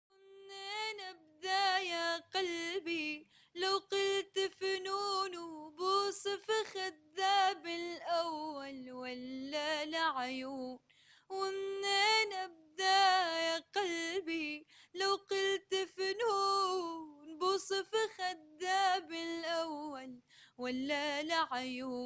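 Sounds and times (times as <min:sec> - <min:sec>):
woman singing unaccompanied: 0:00.1 - 0:22.0.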